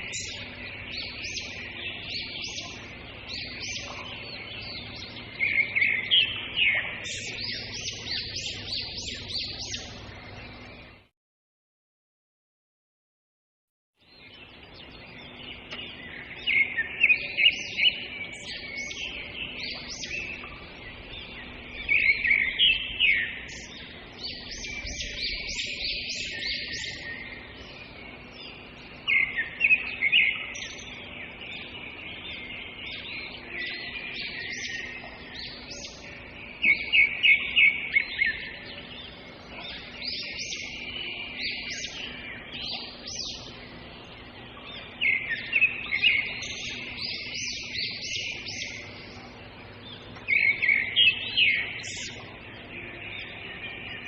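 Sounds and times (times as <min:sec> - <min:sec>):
songbirds chirping: 0:00.0 - 0:11.1, 0:14.0 - 0:54.0.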